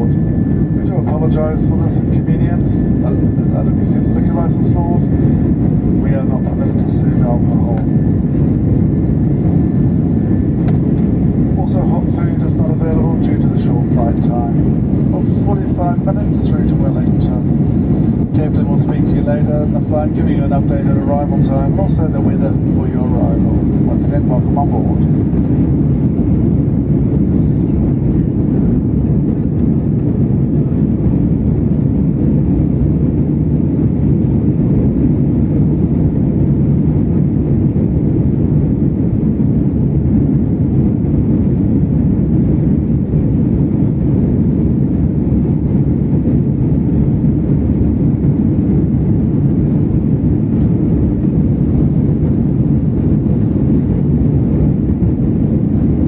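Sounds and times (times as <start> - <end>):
aircraft cabin drone: 0.0 - 56.0.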